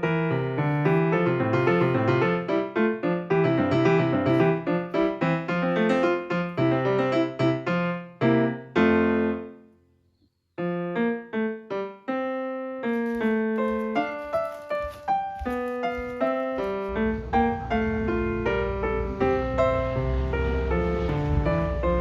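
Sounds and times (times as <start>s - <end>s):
piano music: 0.0s - 9.7s, 10.6s - 22.0s.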